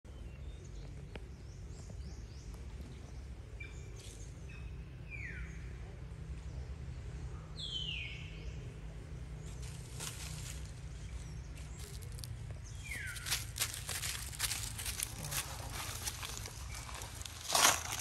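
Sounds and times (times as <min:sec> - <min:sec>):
birds chirping: 0:00.1 - 0:18.0
steady low rumble: 0:00.1 - 0:18.0.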